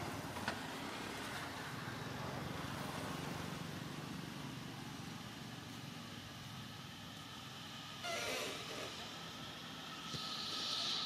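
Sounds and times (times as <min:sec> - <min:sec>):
engine running with low hum: 0:00.0 - 0:11.0.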